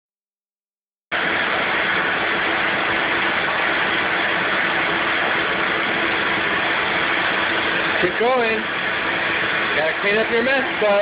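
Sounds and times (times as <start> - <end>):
shop vac running: 1.1 - 11.0.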